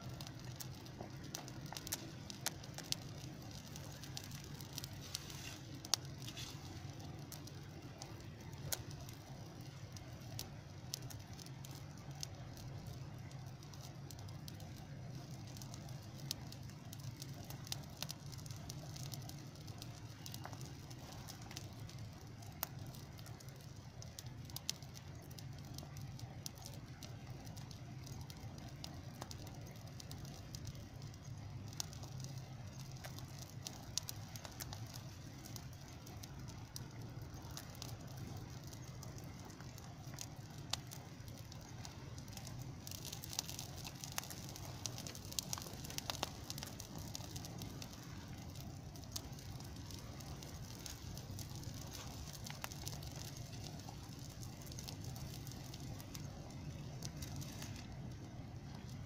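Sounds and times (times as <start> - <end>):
fire crackling: 0.0 - 59.0
fire popping: 0.0 - 59.0
steady low rumble: 0.0 - 59.0.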